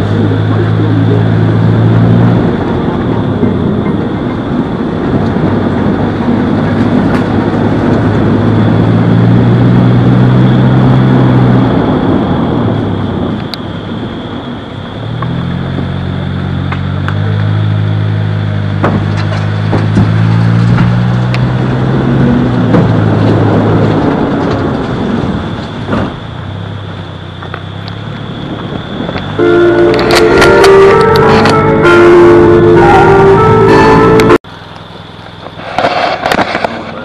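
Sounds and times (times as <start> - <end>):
road noise: 0.0 - 37.0
vehicle engine running: 0.0 - 37.0.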